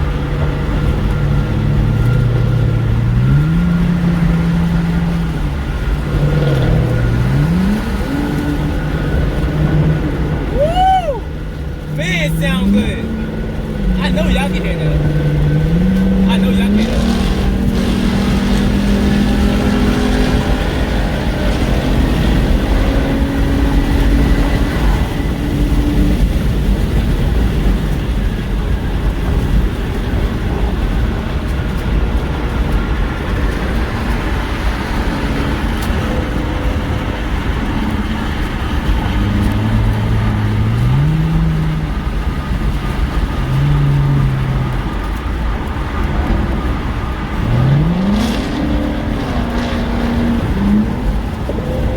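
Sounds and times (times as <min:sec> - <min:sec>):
car engine revving while driving: 0:00.0 - 0:51.9
low road rumble: 0:00.0 - 0:51.9.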